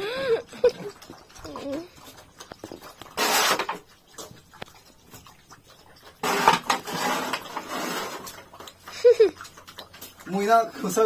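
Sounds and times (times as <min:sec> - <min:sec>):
water splashing on concrete: 0:00.0 - 0:11.0.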